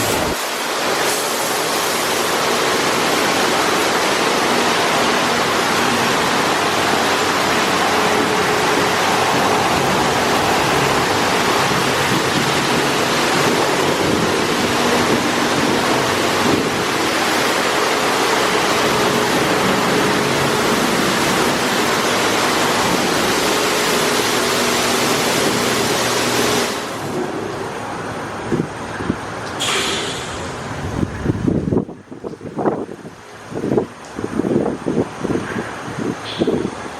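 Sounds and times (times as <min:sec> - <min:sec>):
car wash water spray: 0:00.0 - 0:36.9.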